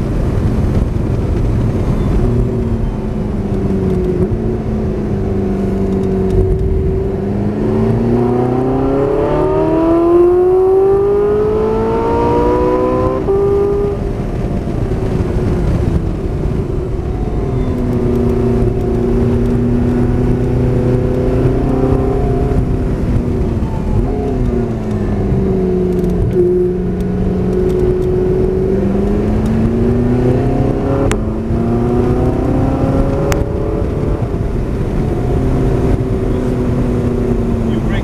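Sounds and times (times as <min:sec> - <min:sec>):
sports car engine under load: 0:00.0 - 0:38.0
wind and road noise: 0:00.0 - 0:38.0.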